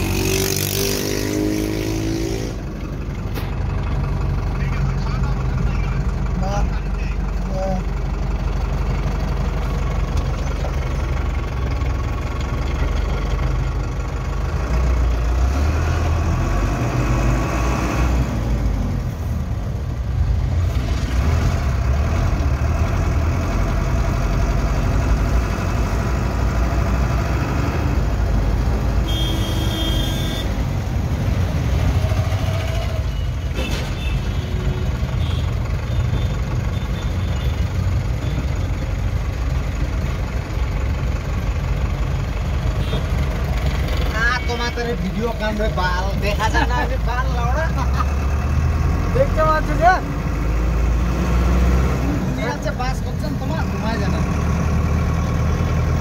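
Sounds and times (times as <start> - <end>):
road noise: 0.0 - 56.0
truck engine running: 2.5 - 17.4, 18.1 - 56.0.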